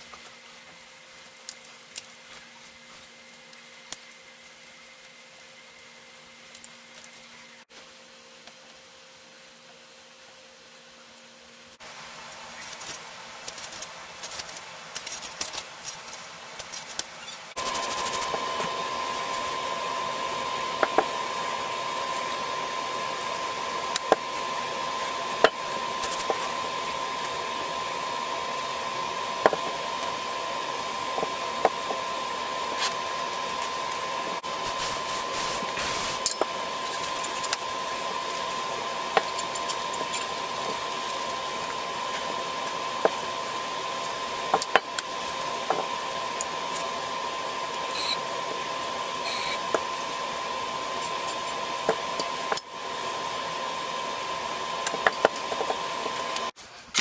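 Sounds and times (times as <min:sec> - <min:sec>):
whirring hum with high tone: 0:00.0 - 0:57.0.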